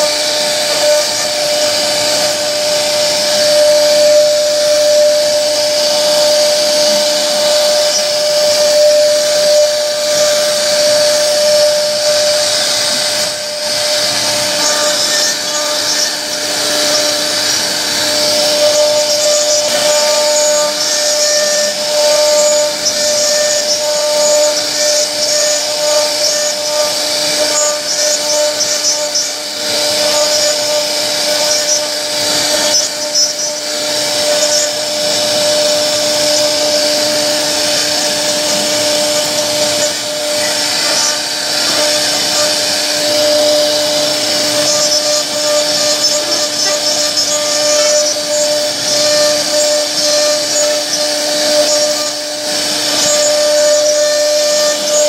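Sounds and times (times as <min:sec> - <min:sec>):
bit rasping through wood: 0:00.0 - 0:55.0
router spindle whine: 0:00.0 - 0:55.0.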